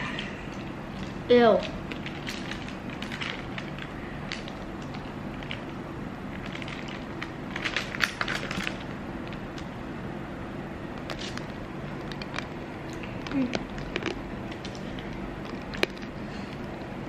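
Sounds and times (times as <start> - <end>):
child chewing crunchy candy: 0.0 - 9.7, 11.0 - 17.0.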